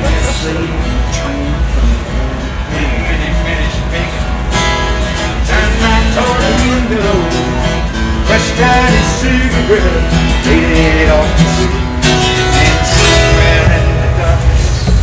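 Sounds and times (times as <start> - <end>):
acoustic guitar strumming: 0.0 - 15.0
train car rumble: 0.0 - 15.0.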